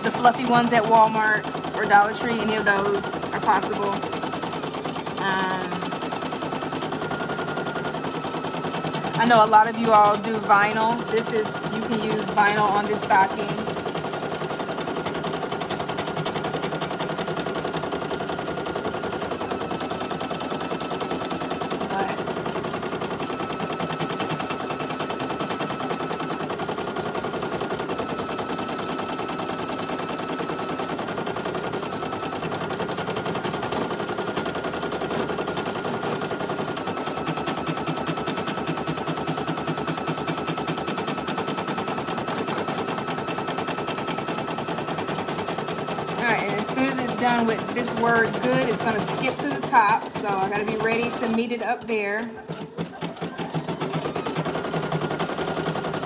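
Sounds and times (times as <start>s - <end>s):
embroidery machine needle chatter: 0.0s - 56.0s.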